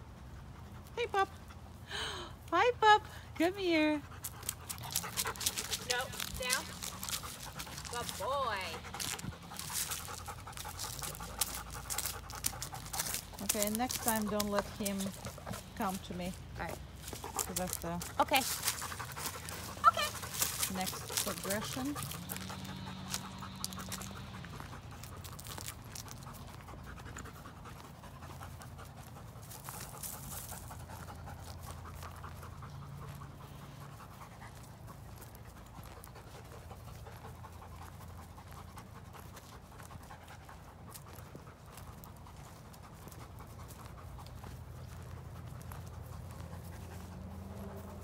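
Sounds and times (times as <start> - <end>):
dog panting: 3.0 - 48.0.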